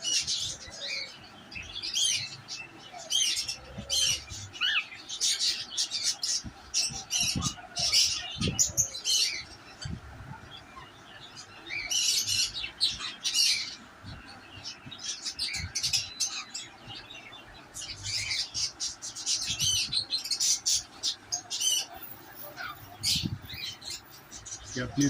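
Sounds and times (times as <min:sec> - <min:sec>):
cockatiels chirping and squawking: 0:00.0 - 0:17.2, 0:17.8 - 0:25.0.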